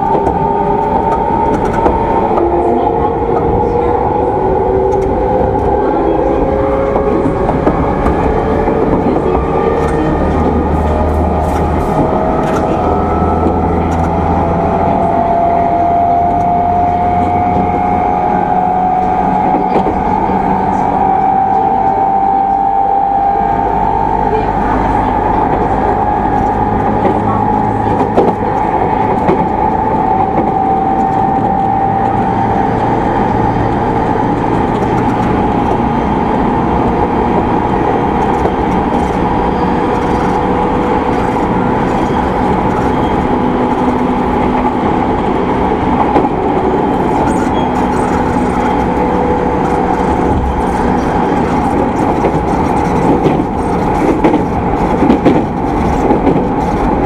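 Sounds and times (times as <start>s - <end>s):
wheels rumbling on track: 0.0s - 57.0s.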